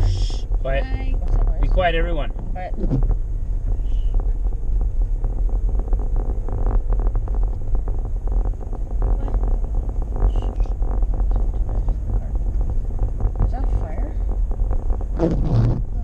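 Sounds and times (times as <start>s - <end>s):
road noise inside moving car: 0.0s - 16.0s
irregular crackling: 2.3s - 16.0s.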